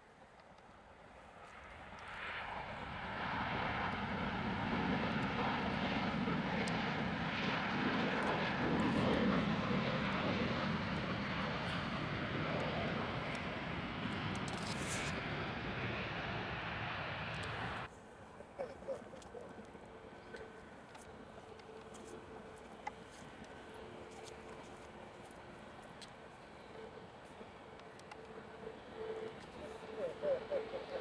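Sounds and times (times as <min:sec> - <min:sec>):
faint engine whine: 0:00.1 - 0:31.0
jet engines passing: 0:01.6 - 0:17.9, 0:18.5 - 0:31.0.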